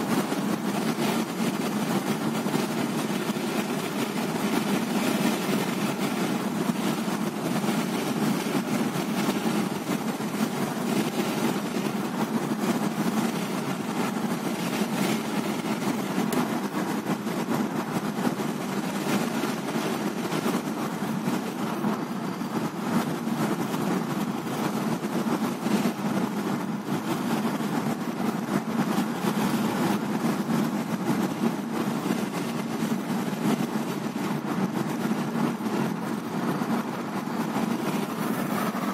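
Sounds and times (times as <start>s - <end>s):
car engine and tyre noise: 0.0s - 38.9s.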